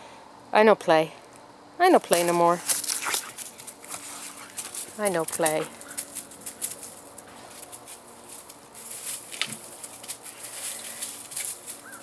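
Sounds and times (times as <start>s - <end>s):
paws crunching dry leaves: 2.1s - 12.0s.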